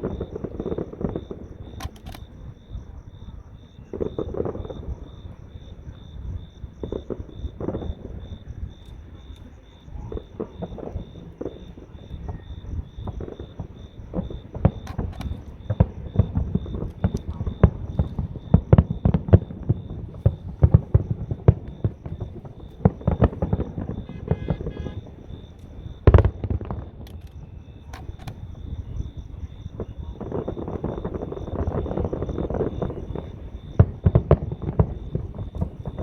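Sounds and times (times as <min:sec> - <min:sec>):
crickets chirping: 0:00.0 - 0:36.0
fireworks booming and cracking: 0:00.0 - 0:36.0.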